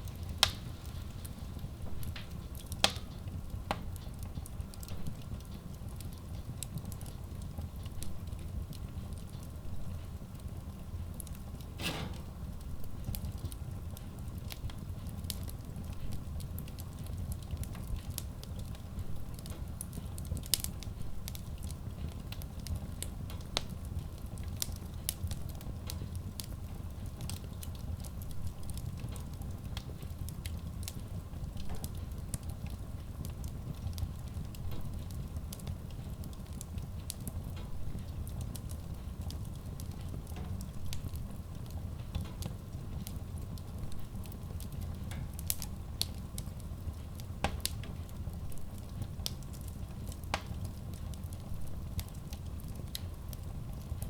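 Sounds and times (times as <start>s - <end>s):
flames rumbling: 0.0s - 54.0s
logs crackling and popping: 0.0s - 54.0s.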